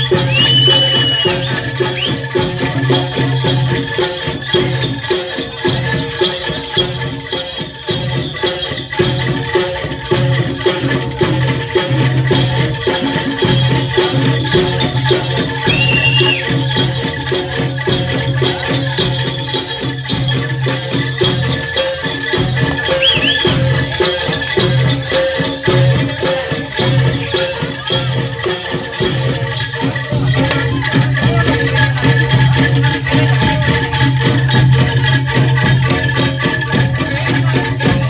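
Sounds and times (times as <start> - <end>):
gamelan music: 0.0 - 38.0
jingling rattle: 0.0 - 38.0.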